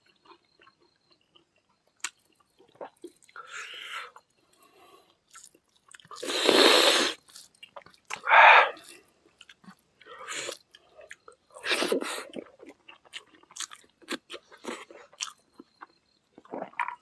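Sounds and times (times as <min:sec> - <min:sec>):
chewing and lip-smacking: 0:00.0 - 0:06.4, 0:07.2 - 0:17.0.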